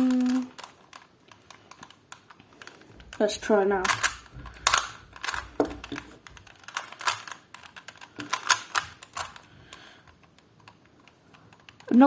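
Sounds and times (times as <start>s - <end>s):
puzzle cube layers clacking: 0.0s - 12.0s.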